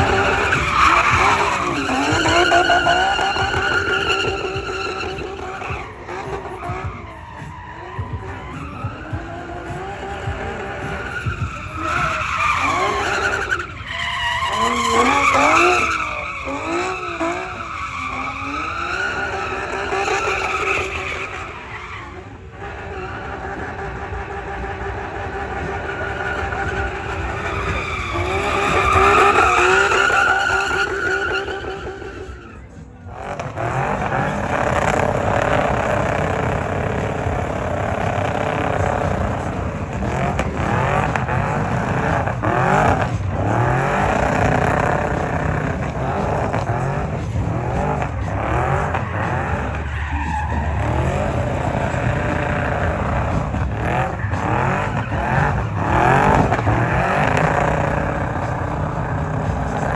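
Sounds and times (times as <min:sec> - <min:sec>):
tyres squealing: 0:00.0 - 0:59.9
vehicle engine revving: 0:00.0 - 0:59.9.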